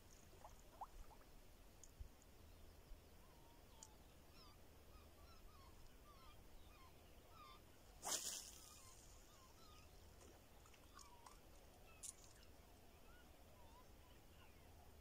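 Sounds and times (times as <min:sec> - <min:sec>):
faint chirping bird calls: 0:02.4 - 0:15.0.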